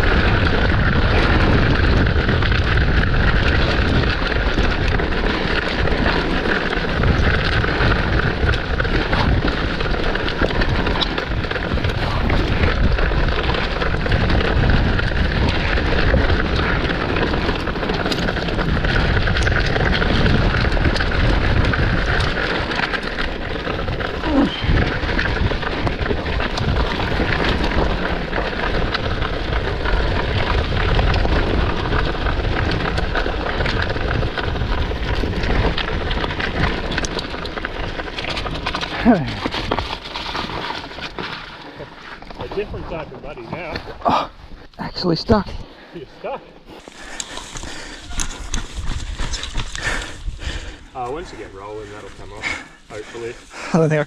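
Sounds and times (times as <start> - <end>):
bike rattling and knocking: 0.0 - 54.0
wind and tyre noise: 0.0 - 54.0.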